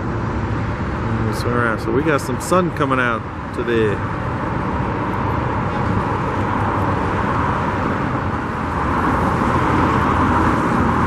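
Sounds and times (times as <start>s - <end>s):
freeway traffic roar: 0.0s - 11.0s.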